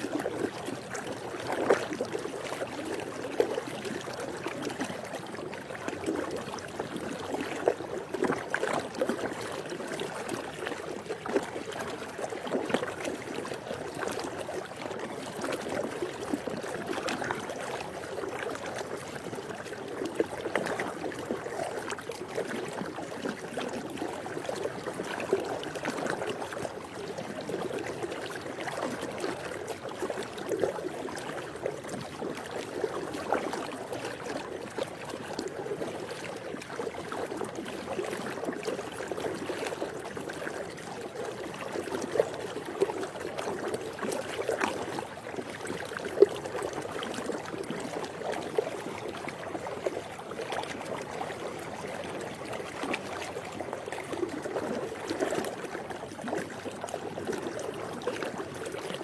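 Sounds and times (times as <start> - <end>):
small irregular splashes: 0.0 - 59.0
steady wash of water: 0.0 - 59.0.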